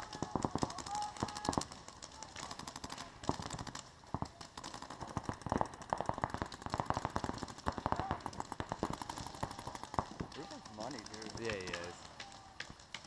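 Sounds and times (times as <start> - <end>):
paintball markers firing rapidly: 0.0 - 13.0.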